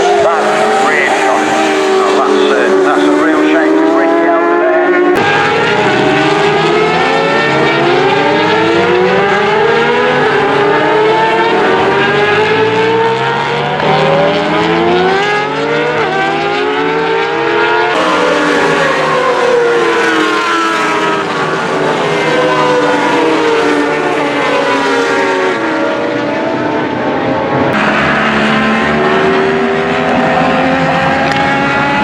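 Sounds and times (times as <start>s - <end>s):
racing engines at full throttle: 0.0s - 32.0s.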